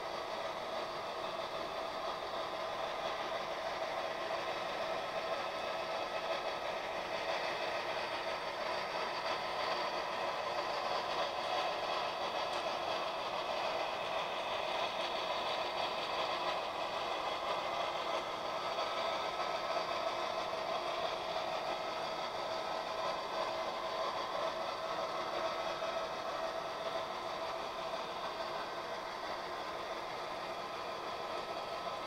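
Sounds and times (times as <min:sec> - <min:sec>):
model train running: 0:00.0 - 0:32.0.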